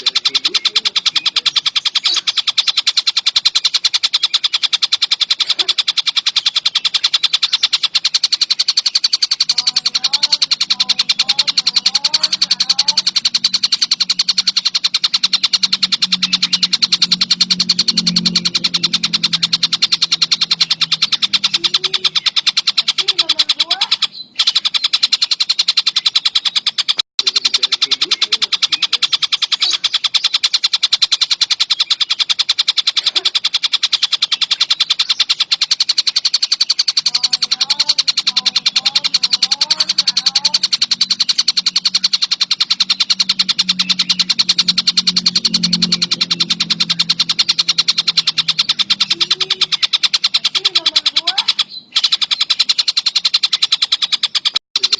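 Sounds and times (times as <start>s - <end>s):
kingfisher chattering trill: 0.0s - 54.9s.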